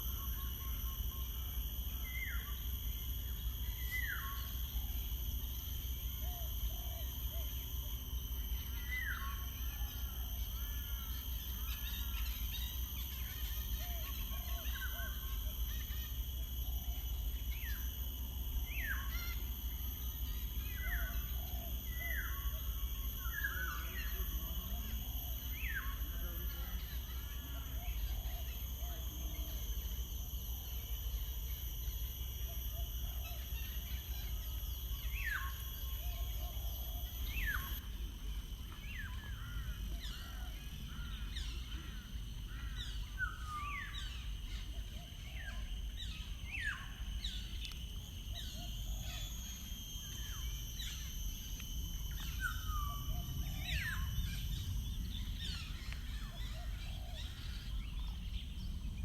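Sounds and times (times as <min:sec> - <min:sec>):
steady high-pitched tones: 0:00.0 - 0:59.0.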